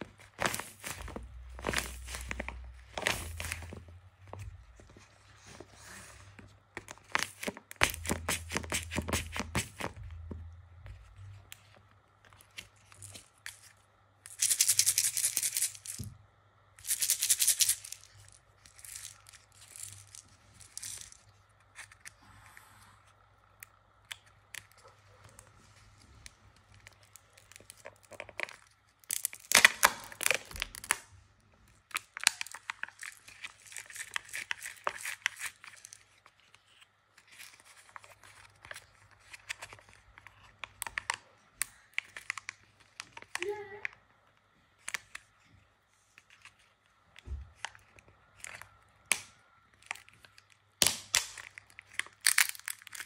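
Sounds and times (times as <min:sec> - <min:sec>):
plastic packaging crinkling: 0:00.0 - 0:05.7, 0:06.8 - 0:16.0, 0:16.9 - 0:22.1, 0:24.2 - 0:31.1, 0:31.8 - 0:43.8, 0:47.6 - 0:53.0.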